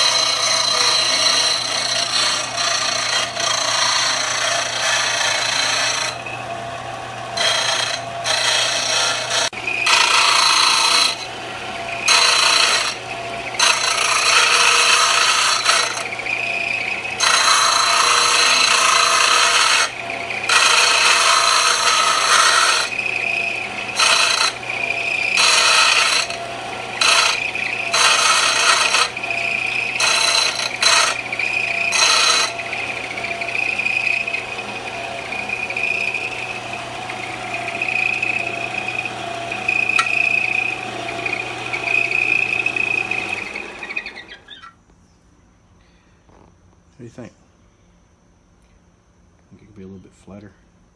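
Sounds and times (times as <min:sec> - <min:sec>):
grinder on metal: 0:00.0 - 0:44.7
motor hum and whine: 0:00.0 - 0:50.9.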